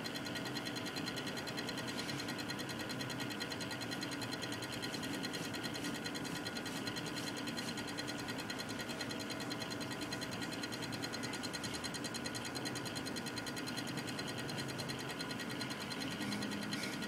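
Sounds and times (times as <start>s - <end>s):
power supply ticking: 0.0s - 17.0s.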